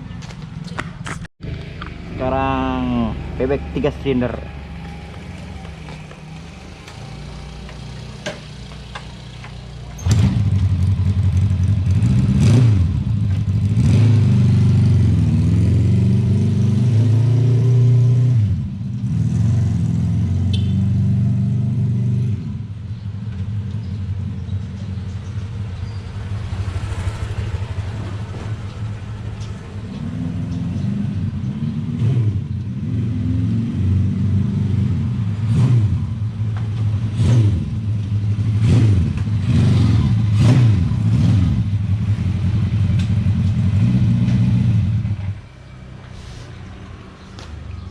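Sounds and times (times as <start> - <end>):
moped engine idling and revving: 0.0 - 47.9.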